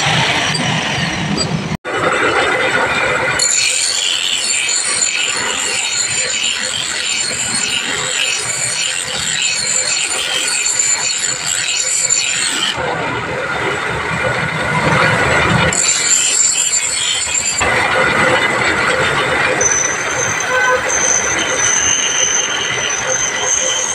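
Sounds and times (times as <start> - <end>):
grinding wheel rasping on steel: 2.7 - 12.8, 14.8 - 23.9.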